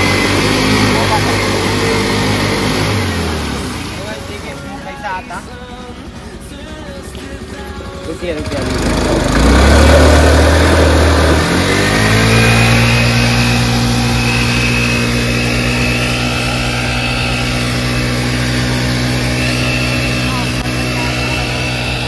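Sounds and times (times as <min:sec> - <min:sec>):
scooter engine at high revs: 0:00.0 - 0:22.0.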